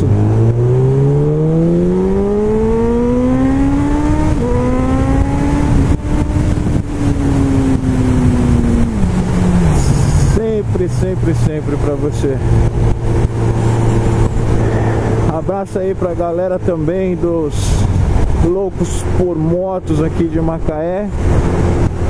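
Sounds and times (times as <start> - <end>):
wind on microphone: 0.0 - 15.3, 17.5 - 19.2, 21.1 - 22.0.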